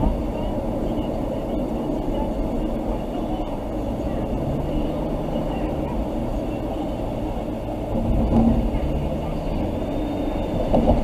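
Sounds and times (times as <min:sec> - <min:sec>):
engines and machinery rumbling: 0:00.0 - 0:11.0.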